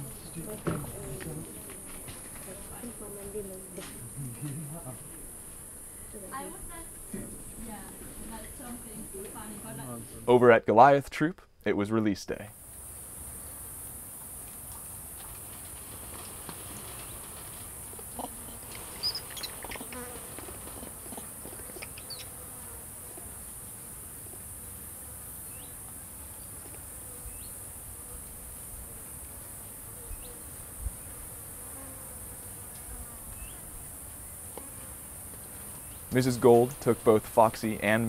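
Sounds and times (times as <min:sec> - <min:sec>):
insects buzzing drone: 0:00.0 - 0:10.2, 0:12.6 - 0:38.0.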